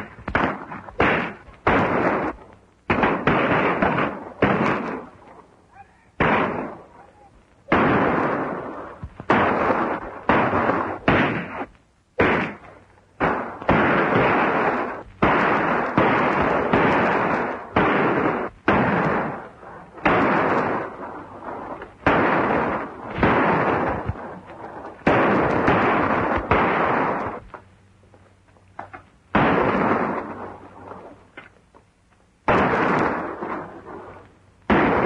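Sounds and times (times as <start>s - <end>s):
gunshots: 0.0s - 5.2s, 6.2s - 27.6s, 28.8s - 31.5s, 32.4s - 35.0s.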